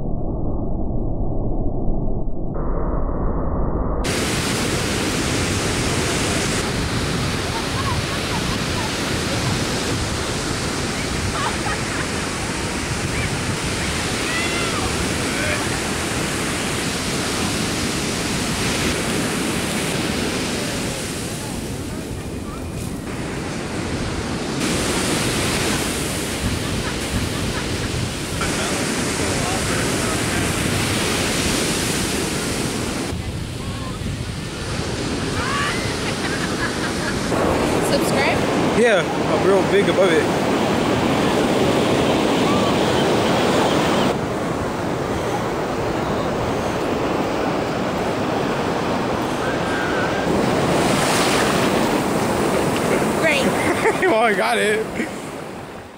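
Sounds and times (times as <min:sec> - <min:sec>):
wind rumbling on microphone: 0:00.0 - 0:54.0
ocean surf breaking: 0:04.0 - 0:55.9.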